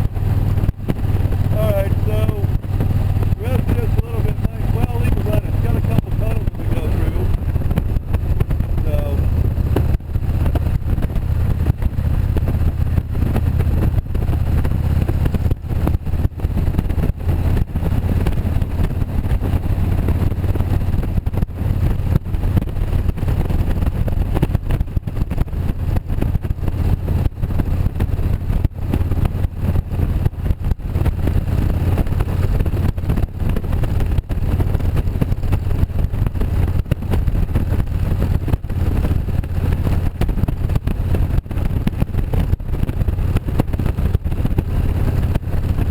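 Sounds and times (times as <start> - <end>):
motorcycle engine running: 0.0 - 45.9
wind noise on microphone: 0.0 - 45.9.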